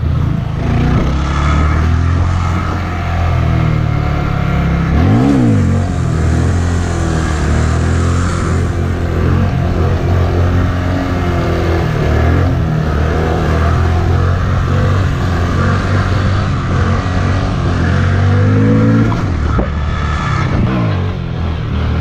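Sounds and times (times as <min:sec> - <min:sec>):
engine revving: 0:00.0 - 0:22.0
motorcycle engine running: 0:00.0 - 0:22.0.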